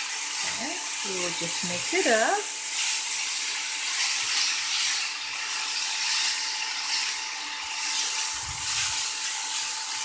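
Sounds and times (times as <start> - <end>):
food sizzling in a hot pan: 0.0 - 10.0
spatula stirring: 0.0 - 10.0.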